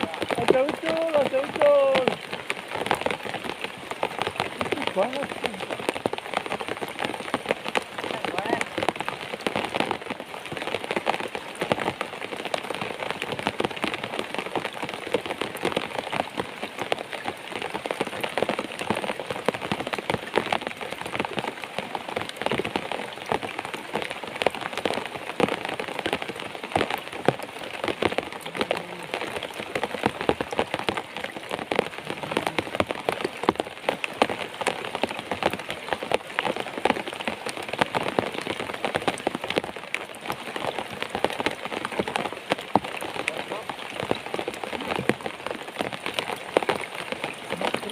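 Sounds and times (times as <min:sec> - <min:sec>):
rain drops ticking: 0:00.0 - 0:47.9.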